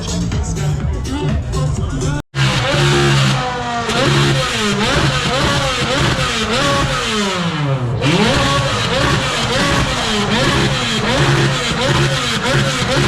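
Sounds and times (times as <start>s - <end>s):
car engine revving hard: 2.3s - 13.0s.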